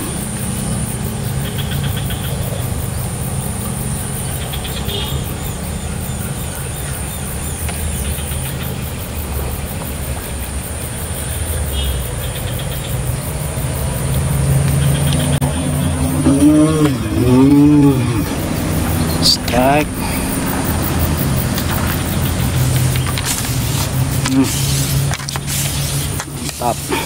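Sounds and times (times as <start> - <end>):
engine droning: 0.0 - 27.0.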